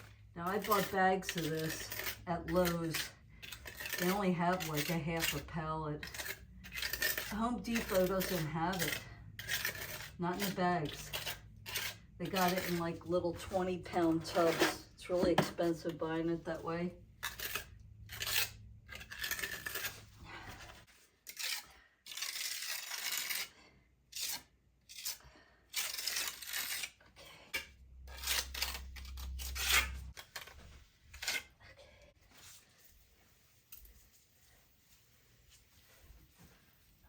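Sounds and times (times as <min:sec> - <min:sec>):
trowel scraping mortar: 0:00.0 - 0:31.6.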